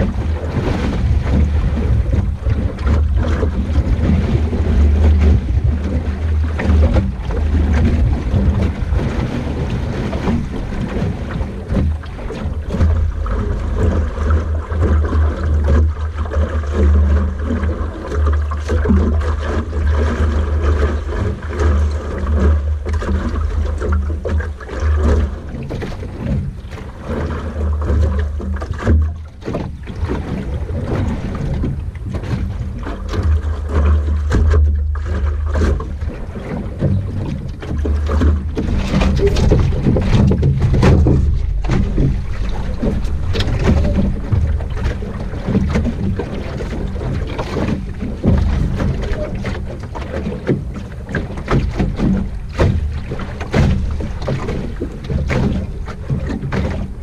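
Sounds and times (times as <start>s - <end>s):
water rushing along hull: 0.0s - 57.0s
wind buffeting microphone: 0.0s - 57.0s.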